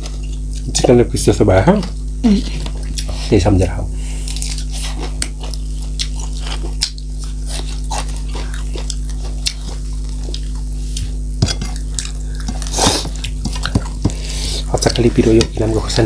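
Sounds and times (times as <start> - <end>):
chewing dried meat: 0.0 - 1.1, 1.7 - 3.4, 4.0 - 16.0.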